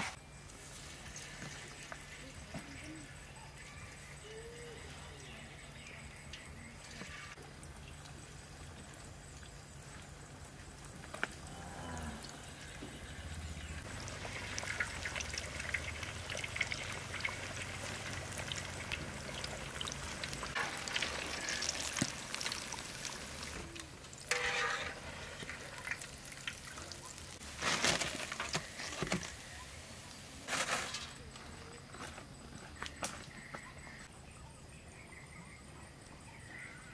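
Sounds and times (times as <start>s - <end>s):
fritters deep-frying in oil: 0.0s - 30.3s.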